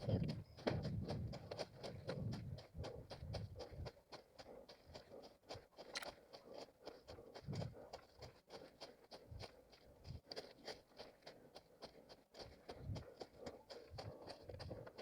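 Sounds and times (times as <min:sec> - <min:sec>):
running footsteps on forest litter: 0:00.0 - 0:15.0.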